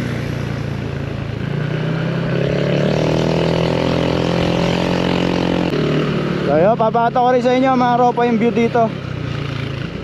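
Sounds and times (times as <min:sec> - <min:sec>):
rush of riding noise: 0:00.0 - 0:10.0
scooter engine accelerating: 0:00.0 - 0:10.0.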